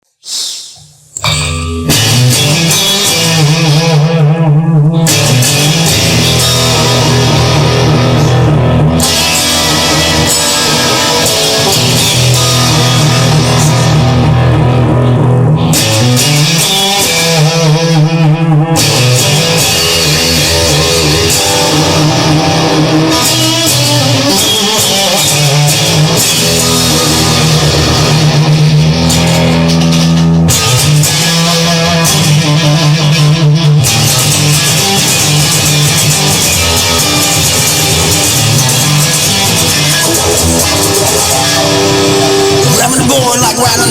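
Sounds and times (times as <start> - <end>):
electric guitars: 0.2 - 43.9
bass guitar: 0.6 - 43.9.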